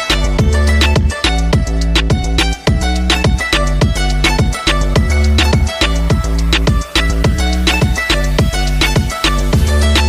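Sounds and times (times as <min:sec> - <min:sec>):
pop music with steady beat: 0:00.0 - 0:10.0.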